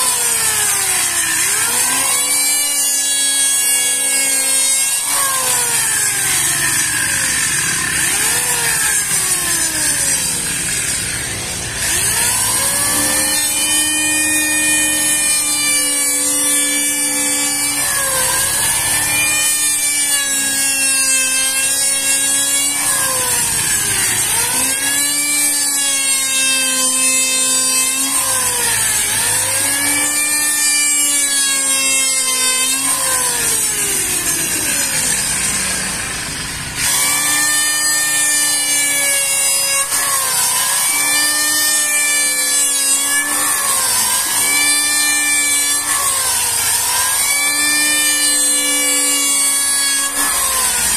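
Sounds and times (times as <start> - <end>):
electric planer shaving wood: 0.0 - 50.9.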